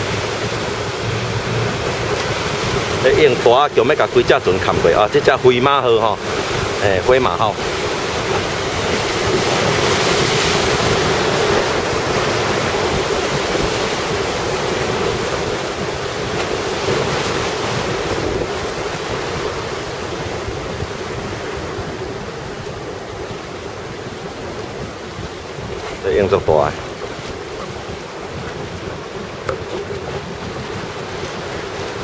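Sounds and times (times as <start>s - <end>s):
heavy surf breaking: 0.0s - 32.0s
wind buffeting microphone: 0.0s - 32.0s.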